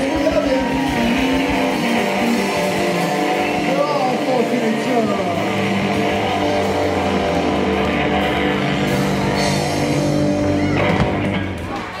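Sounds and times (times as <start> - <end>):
rock band sustained chord: 0.0 - 11.7.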